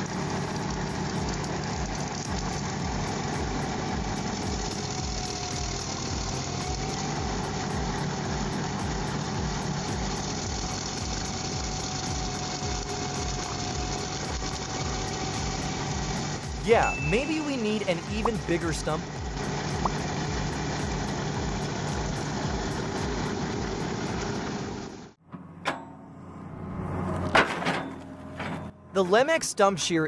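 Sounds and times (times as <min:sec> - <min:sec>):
excavator diesel engine running: 0:00.0 - 0:25.2.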